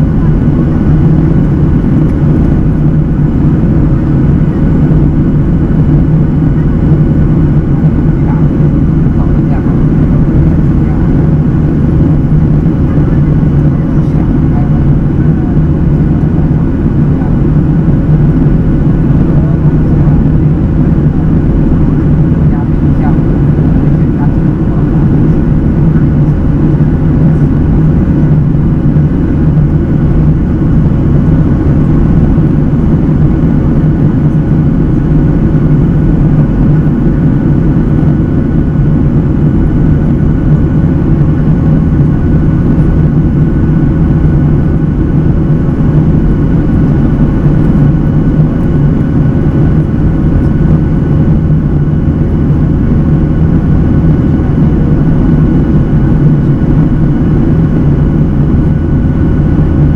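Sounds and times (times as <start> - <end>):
faint steady tones: 0.0 - 59.9
jet engine rumble in cabin: 0.0 - 59.9.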